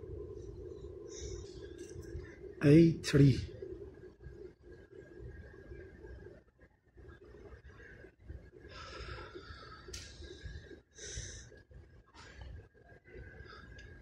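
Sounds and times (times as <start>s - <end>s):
faint steady tone: 0.0s - 14.0s
steady low hum: 0.0s - 14.0s.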